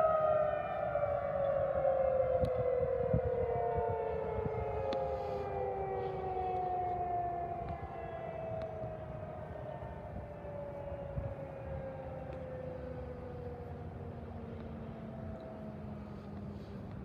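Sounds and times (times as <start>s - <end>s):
outdoor warning sirens winding down: 0.0s - 17.0s.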